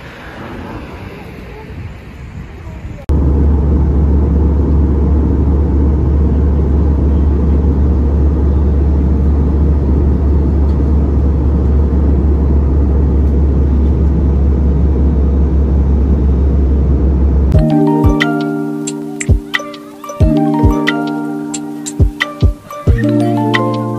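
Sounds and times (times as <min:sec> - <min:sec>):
airliner cabin engine drone: 0:00.0 - 0:23.9.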